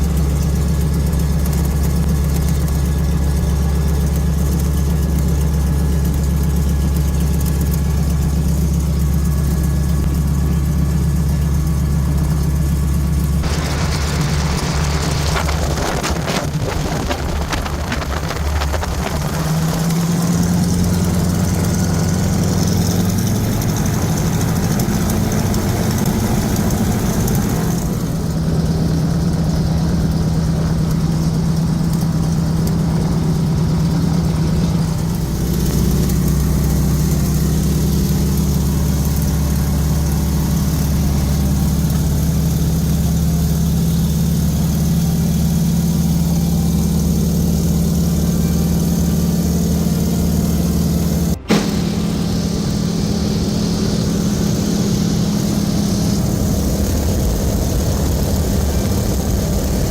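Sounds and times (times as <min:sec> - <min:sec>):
radial aircraft engine drone: 0:00.0 - 0:59.9.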